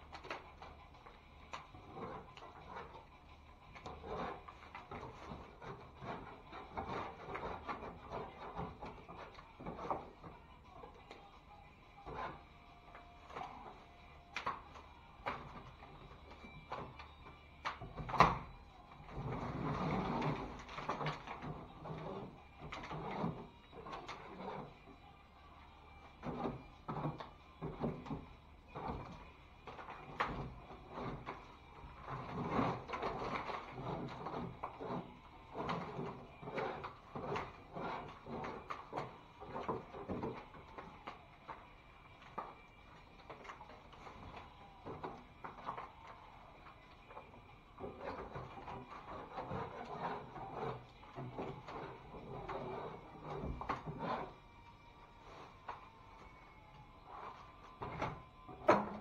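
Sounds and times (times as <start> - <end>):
tape scraping and tearing off ceiling: 0.0 - 11.2, 12.0 - 25.0, 26.1 - 54.4.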